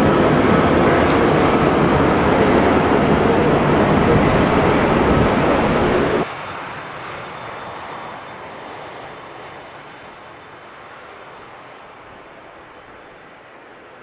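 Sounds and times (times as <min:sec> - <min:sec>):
airplane engine rushing: 0:00.0 - 0:14.0.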